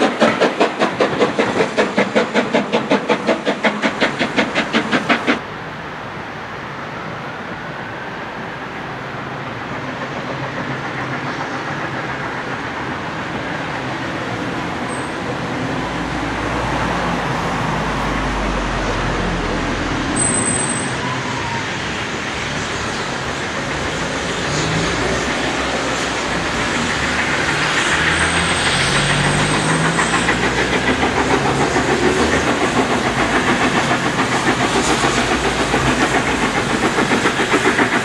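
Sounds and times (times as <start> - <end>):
distant steam locomotive rush: 0.0 - 38.0.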